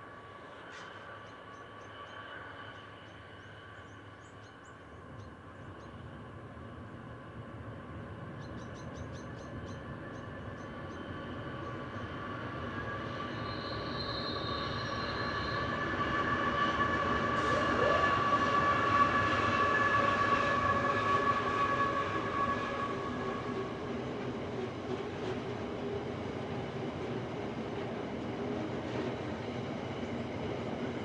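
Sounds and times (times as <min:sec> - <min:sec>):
freight train rumble: 0:00.0 - 0:31.0
high-pitched locomotive whine: 0:00.0 - 0:31.0.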